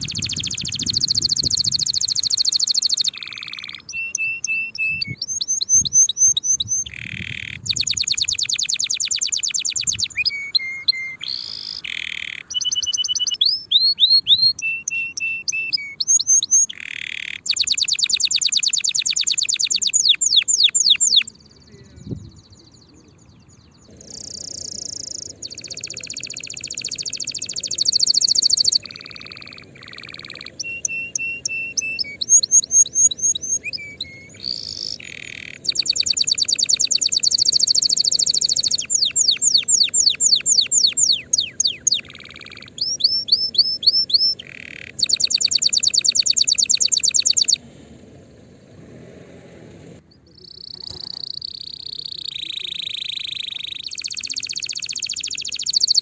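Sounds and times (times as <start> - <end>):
canary singing trills: 0.0 - 47.6, 50.0 - 56.0.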